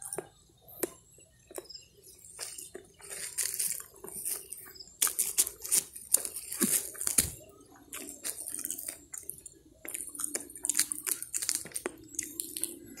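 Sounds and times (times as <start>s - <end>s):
crackling and rustling: 0.0s - 13.0s
short crunches: 2.3s - 12.7s.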